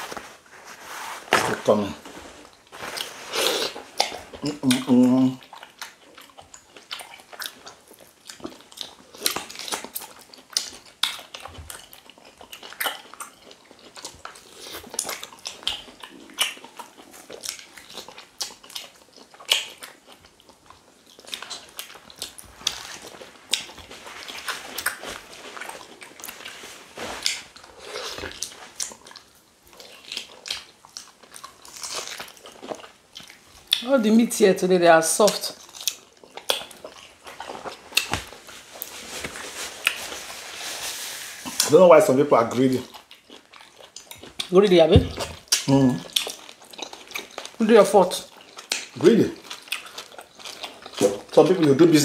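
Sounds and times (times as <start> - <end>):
wet chewing and lip-smacking: 2.4 - 33.9, 35.2 - 40.1, 42.5 - 51.9.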